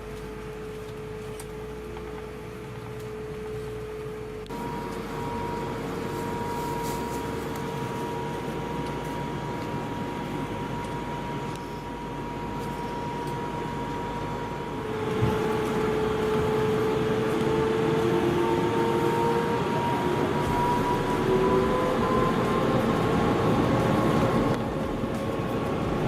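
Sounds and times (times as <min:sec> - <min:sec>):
jet engines whining: 0:02.8 - 0:26.0.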